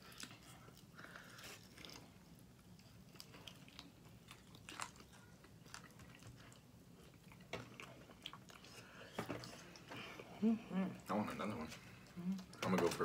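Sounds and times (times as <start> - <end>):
people chewing with wet smacks: 0.0 - 13.0.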